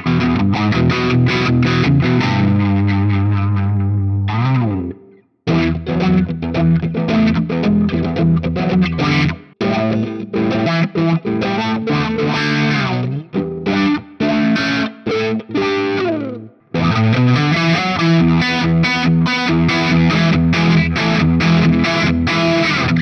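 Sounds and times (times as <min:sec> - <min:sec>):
distorted electric guitar riffs: 0:00.0 - 0:23.0.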